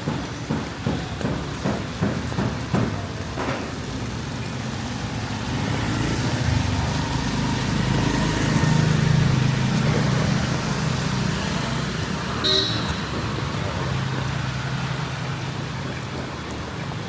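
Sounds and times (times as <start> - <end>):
vehicle engine rumble: 0.3 - 17.0.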